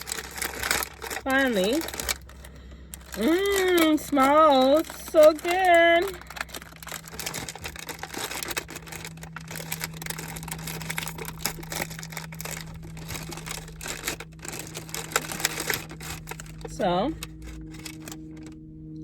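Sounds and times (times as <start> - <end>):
cookie packaging crinkling: 0.0 - 18.6.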